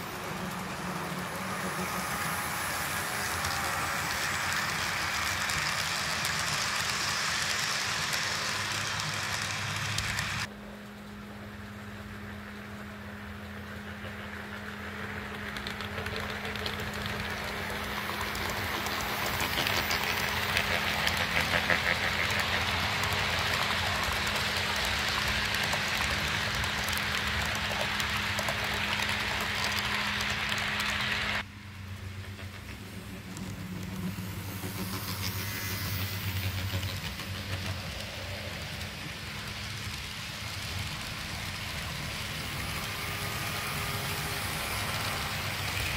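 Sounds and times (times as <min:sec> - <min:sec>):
model train wheels rolling: 0:00.0 - 0:45.9.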